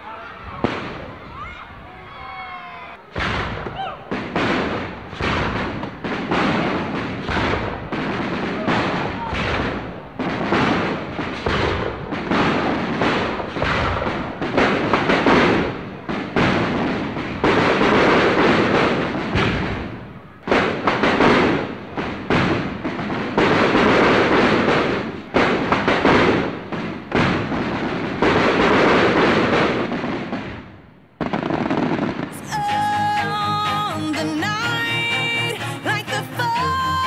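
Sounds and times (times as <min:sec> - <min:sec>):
fireworks booming and crackling: 0:00.0 - 0:37.0.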